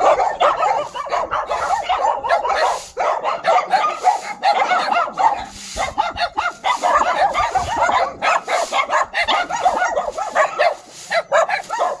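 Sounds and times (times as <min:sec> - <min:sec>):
many dogs barking and yipping: 0:00.0 - 0:12.0.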